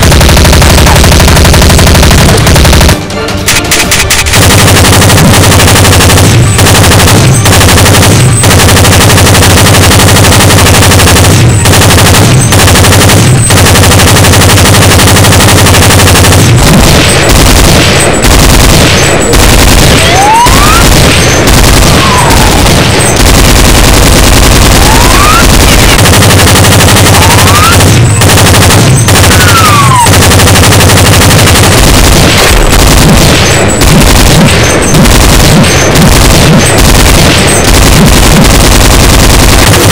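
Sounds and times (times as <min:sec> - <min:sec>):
rapid machine-gun fire: 0:00.0 - 0:39.9.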